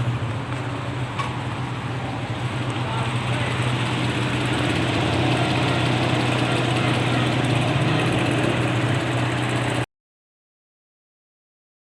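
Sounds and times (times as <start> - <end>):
engine idling with misfire: 0.0 - 9.9.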